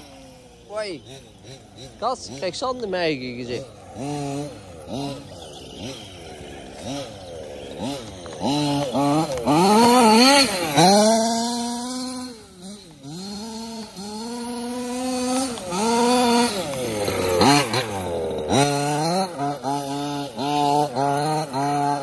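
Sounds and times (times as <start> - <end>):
model car gas engine revving: 0.0 - 22.0.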